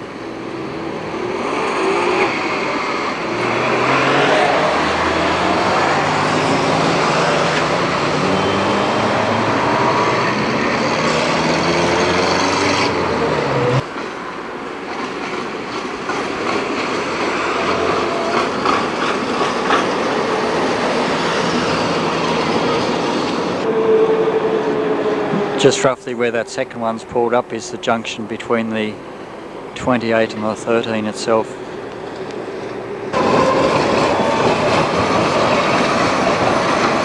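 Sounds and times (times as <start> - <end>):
tram running with motor whine: 0.0 - 37.0
tram wheels clacking over points: 0.0 - 37.0.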